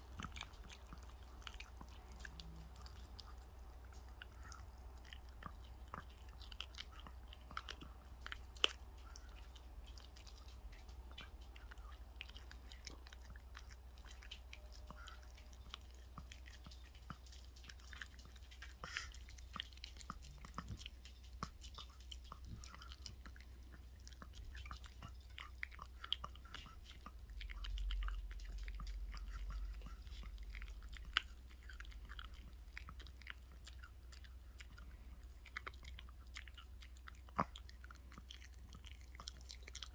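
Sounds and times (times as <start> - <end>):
dog chewing meat: 0.0 - 39.9
teeth clicking: 0.0 - 39.9.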